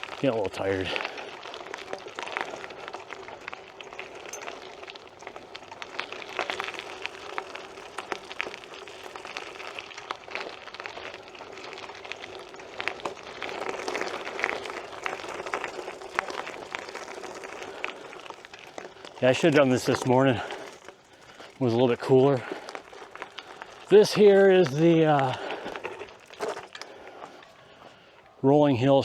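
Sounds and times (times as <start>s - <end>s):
bike clicks and rattles: 0.0s - 28.2s
bike tyres crunching gravel: 0.0s - 29.0s.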